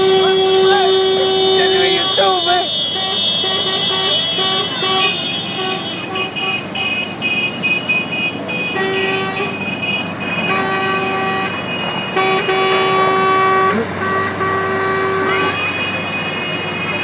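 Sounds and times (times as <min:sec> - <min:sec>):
horns honking: 0:00.0 - 0:17.0.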